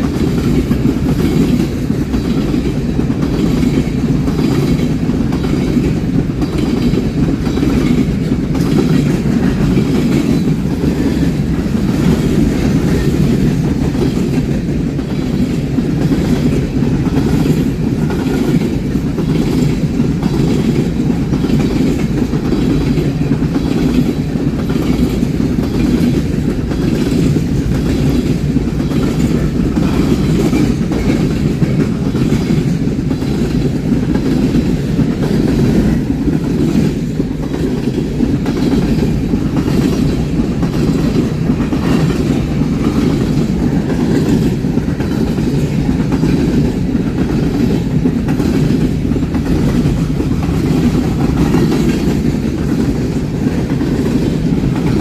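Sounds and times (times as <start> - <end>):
railroad cars rumbling past: 0.0 - 55.0
wheels clicking over rail joints: 0.0 - 55.0.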